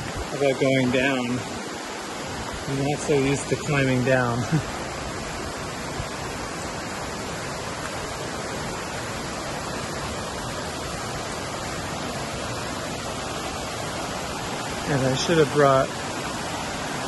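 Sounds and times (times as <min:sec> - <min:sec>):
stream cascading over rocks: 0:00.0 - 0:17.0.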